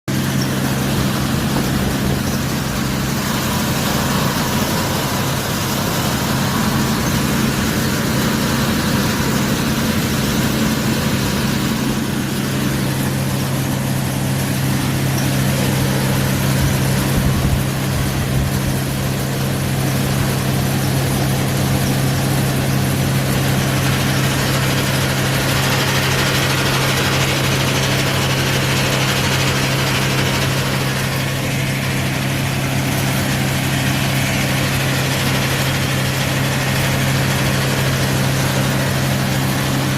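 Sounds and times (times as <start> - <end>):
machine motor hum: 0.1 - 39.9
machine rattling: 0.1 - 39.9.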